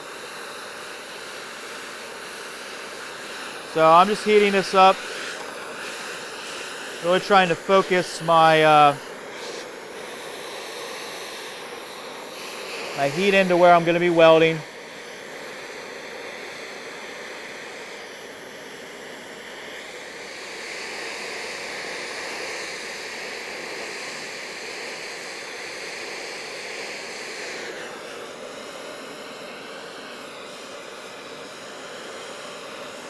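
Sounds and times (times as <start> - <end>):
gas torch hissing flame: 0.0 - 33.0.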